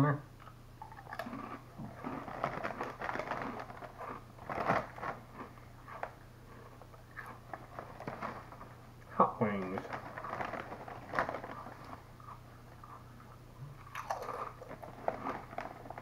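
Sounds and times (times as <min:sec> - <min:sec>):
crunching potato chips: 0:00.8 - 0:16.0
plastic chip bag crinkling: 0:00.9 - 0:13.0, 0:13.8 - 0:16.0.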